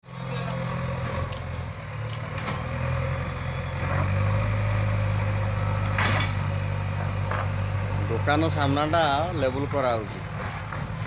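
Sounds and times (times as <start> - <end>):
heavy diesel engine humming: 0.0 - 11.0.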